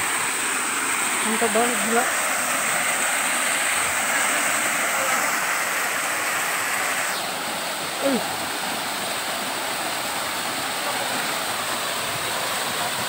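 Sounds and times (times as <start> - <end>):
waterfall splashing over rocks: 0.0 - 13.0.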